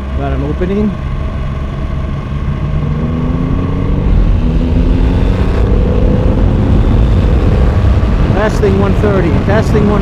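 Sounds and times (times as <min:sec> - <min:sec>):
motorcycle engine accelerating: 0:00.0 - 0:10.0
wind rush on microphone: 0:00.0 - 0:10.0.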